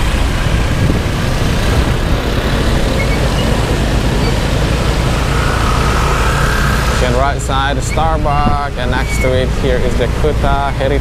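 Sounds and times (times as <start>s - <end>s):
road traffic noise: 0.0s - 11.0s
wind rumble on microphone: 0.0s - 11.0s.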